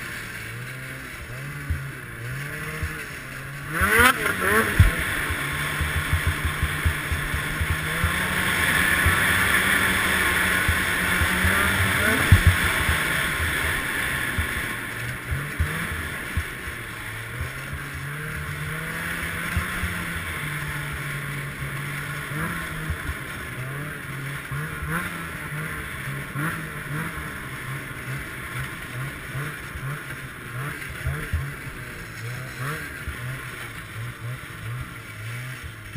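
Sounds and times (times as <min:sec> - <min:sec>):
snowmobile engine running: 0:00.0 - 0:35.9
track and snow hiss: 0:00.0 - 0:35.9.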